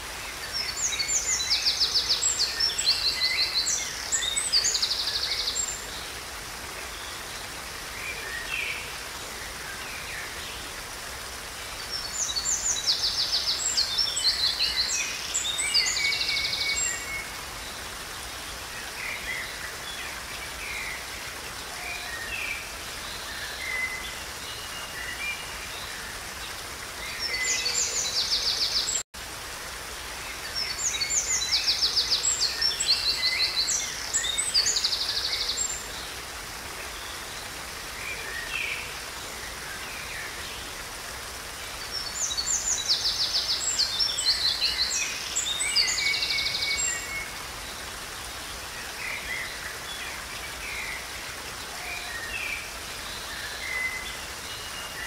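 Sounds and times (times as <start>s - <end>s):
waterfall splashing over rocks: 0.0s - 55.0s.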